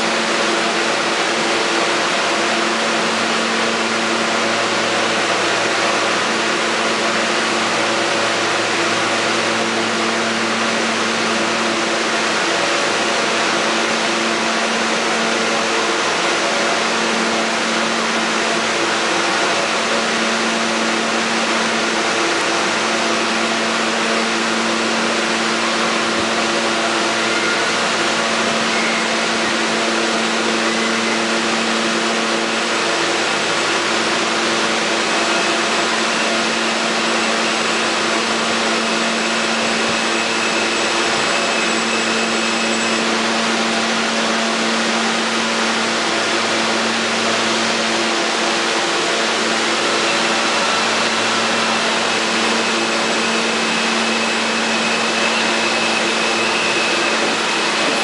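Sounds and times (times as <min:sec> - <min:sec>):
subway train whirring hum: 0:00.0 - 0:58.0
steady whining tones: 0:00.1 - 0:58.0.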